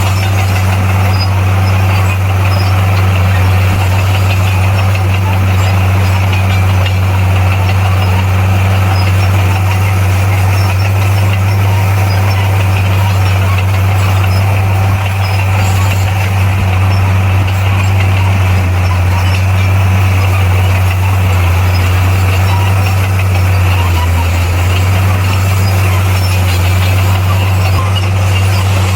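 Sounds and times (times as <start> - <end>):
heavy diesel engine running: 0.0 - 28.9.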